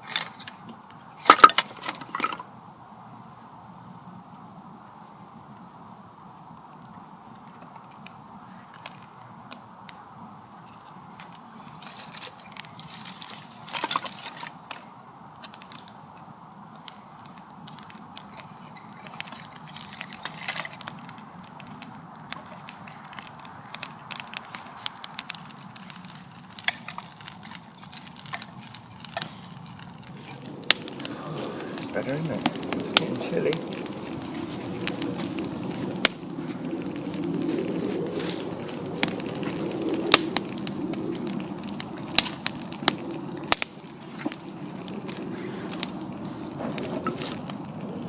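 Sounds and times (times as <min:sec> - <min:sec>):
campfire crackling with pops: 0:00.0 - 0:48.0.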